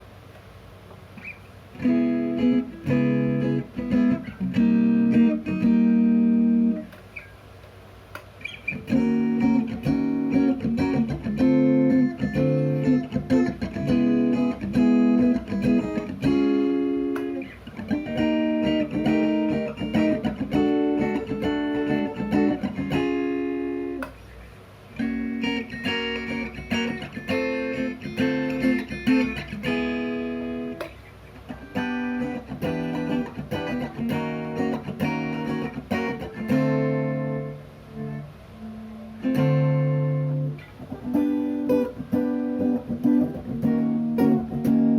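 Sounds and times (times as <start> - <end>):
electric guitar chords strummed: 1.2 - 7.2, 8.4 - 24.2, 24.9 - 44.9.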